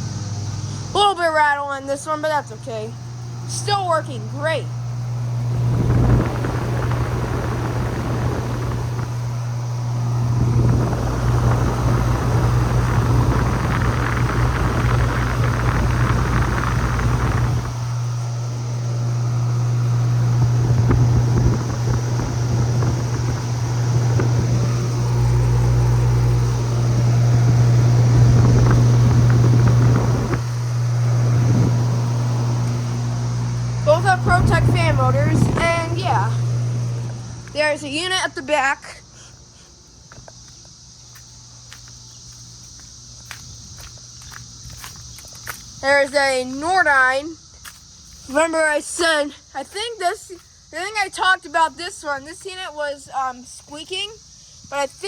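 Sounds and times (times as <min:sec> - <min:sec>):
compressor hum: 0:00.0 - 0:55.0
fan air rushing: 0:00.0 - 0:55.0.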